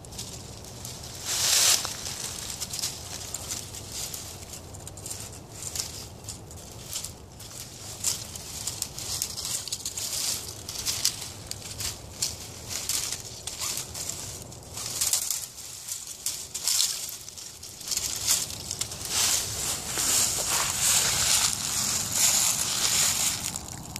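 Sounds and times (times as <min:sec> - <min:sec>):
twigs crackling and snapping: 0:00.0 - 0:23.9.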